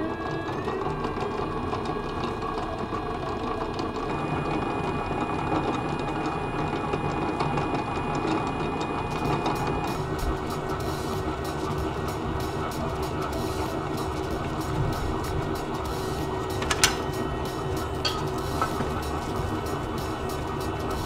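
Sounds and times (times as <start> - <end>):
stand mixer whirring: 0.0 - 21.0.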